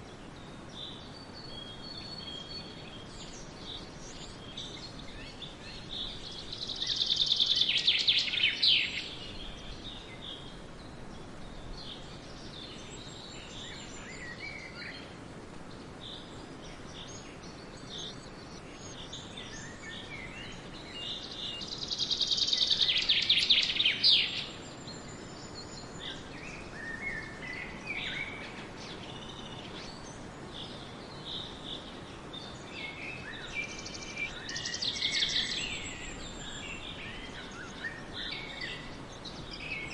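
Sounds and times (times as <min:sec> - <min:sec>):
faint bird chirps and calls: 0:00.0 - 0:39.9
bird trilling song: 0:00.8 - 0:10.5, 0:16.9 - 0:39.9.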